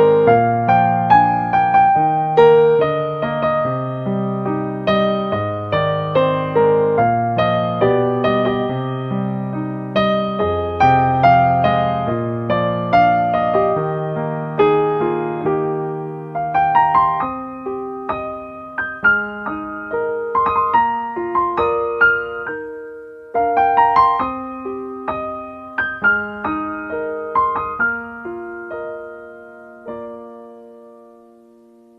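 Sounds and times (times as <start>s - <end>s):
gentle piano music: 0.0s - 31.9s.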